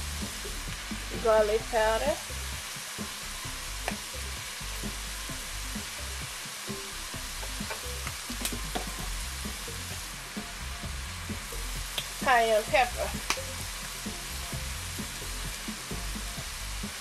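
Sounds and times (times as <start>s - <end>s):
vegetables sizzling in frying pan: 0.0s - 17.0s.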